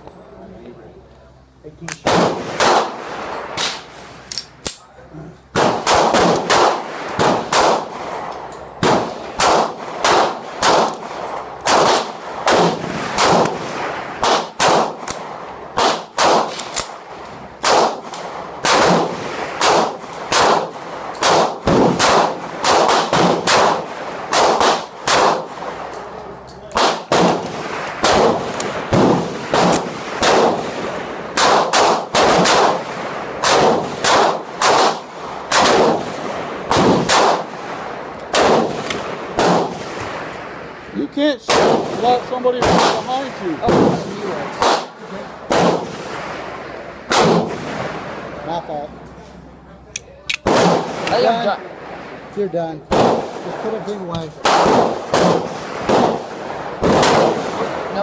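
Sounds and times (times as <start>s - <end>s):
gunshots with ringing echo: 2.0s - 4.0s, 5.5s - 40.8s, 41.5s - 48.4s, 50.4s - 58.0s.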